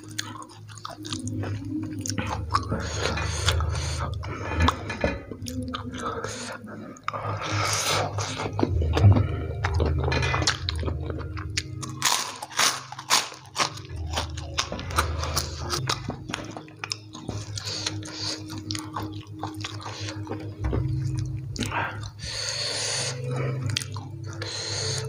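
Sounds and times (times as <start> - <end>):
man chewing noodles: 0.0 - 25.0.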